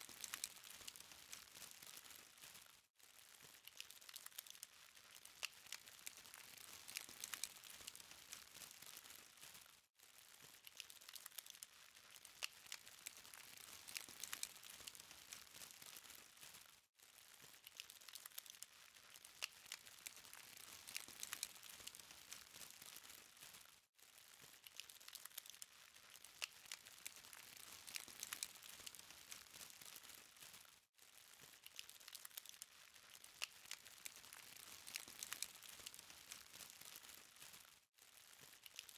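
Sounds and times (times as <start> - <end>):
charcoal fire crackling: 0.0 - 38.9.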